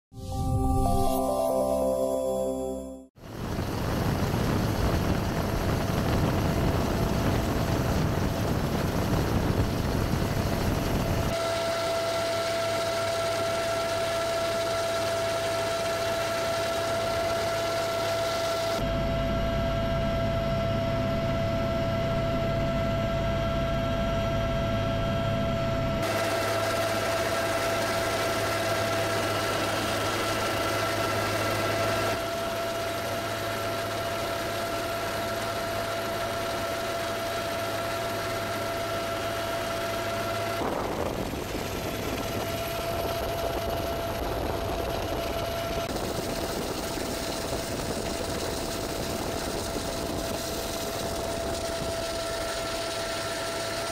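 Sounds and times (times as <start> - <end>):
helicopter engine whine: 3.2 - 53.9
helicopter rotor drone: 3.2 - 53.9.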